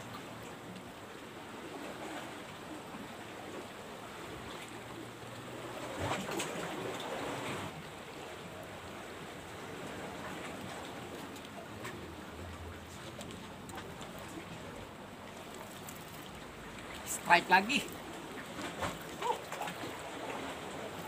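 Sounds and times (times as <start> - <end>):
sea waves washing on rocky shore: 0.0 - 21.0.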